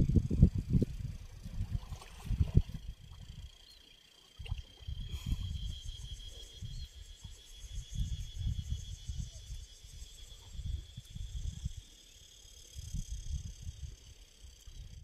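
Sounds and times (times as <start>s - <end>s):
wind rumble on microphone: 0.0s - 3.6s, 4.4s - 12.0s, 12.7s - 15.0s
high insect drone: 0.0s - 15.0s.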